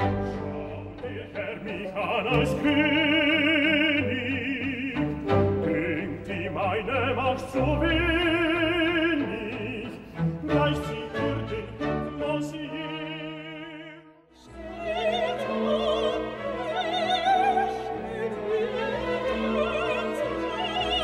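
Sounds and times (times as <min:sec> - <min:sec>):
operatic singing with vibrato: 0:00.0 - 0:21.0
orchestra with bowed strings: 0:00.0 - 0:21.0.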